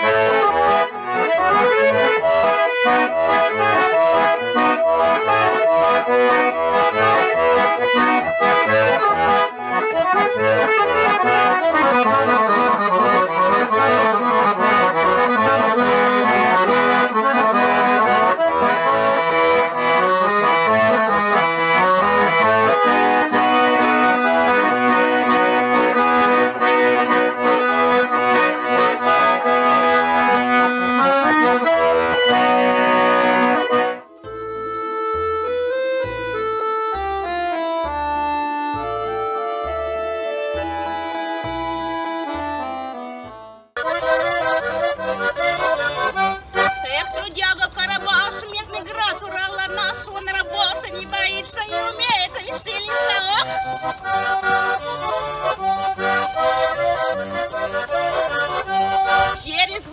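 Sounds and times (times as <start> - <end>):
accordion folk tune: 0.0 - 59.9.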